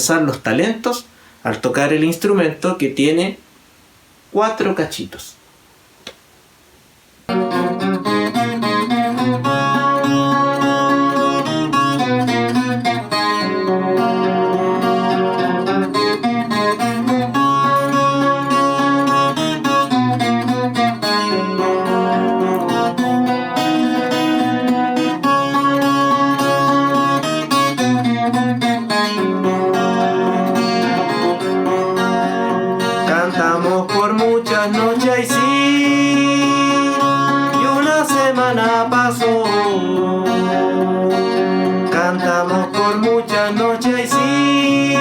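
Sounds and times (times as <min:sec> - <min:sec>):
plucked guitar strings: 0:07.3 - 0:45.0.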